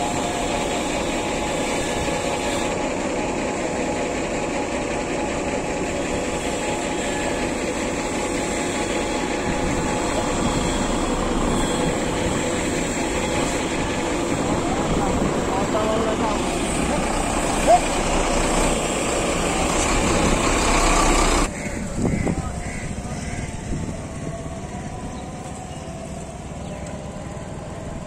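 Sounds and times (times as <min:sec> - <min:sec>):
heavy truck engine running: 0:00.0 - 0:28.0.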